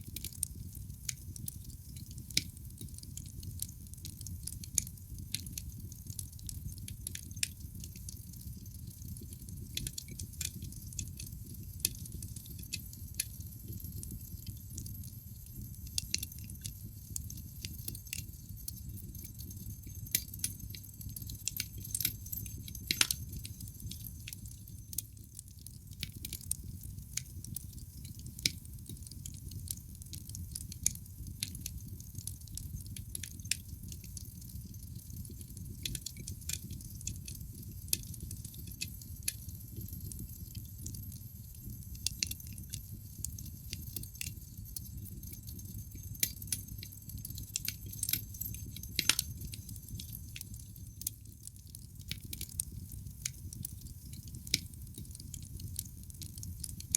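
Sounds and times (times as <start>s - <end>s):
low rush of burning logs: 0.0s - 56.9s
wood fire crackling: 0.0s - 56.9s.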